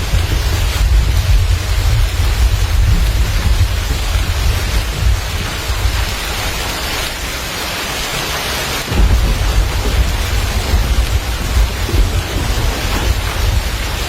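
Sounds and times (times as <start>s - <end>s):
deep low thunder rumble: 0.0s - 7.4s, 8.9s - 14.0s
heavy rain: 0.0s - 14.0s.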